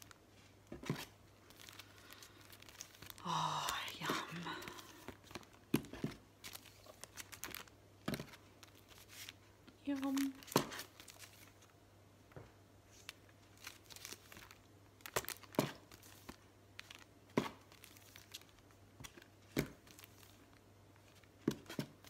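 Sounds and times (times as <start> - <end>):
plastic packaging crinkling: 0.0 - 11.8, 12.9 - 22.0.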